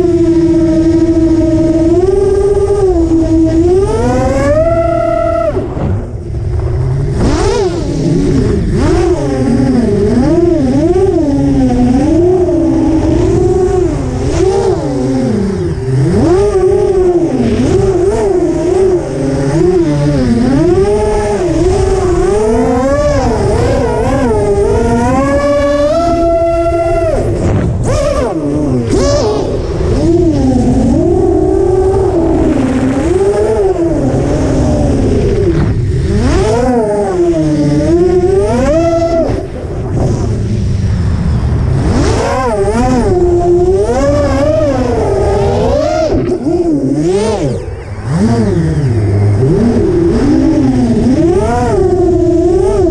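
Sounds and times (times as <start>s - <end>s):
quadcopter motors whining: 0.0s - 52.9s
wind rumble on microphone: 0.0s - 52.9s.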